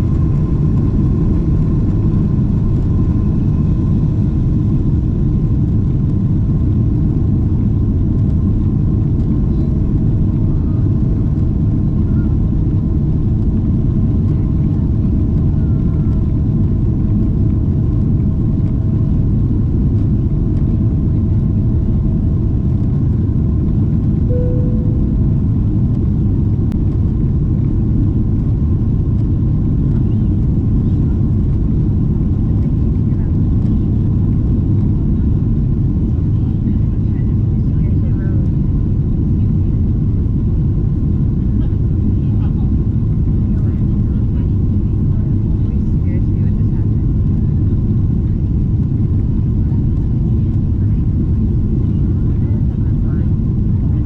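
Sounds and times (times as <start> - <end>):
airliner cabin rumble: 0.0 - 54.0
faint steady engine tones: 0.0 - 54.0.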